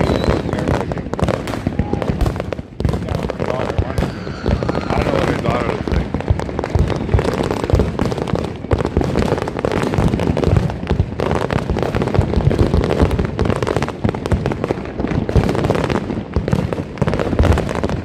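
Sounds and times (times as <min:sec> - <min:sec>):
fireworks and firecrackers crackling: 0:00.0 - 0:18.0.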